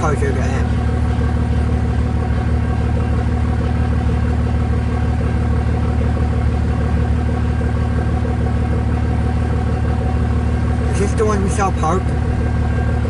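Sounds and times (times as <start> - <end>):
loud low engine-like rumble: 0.0 - 13.0.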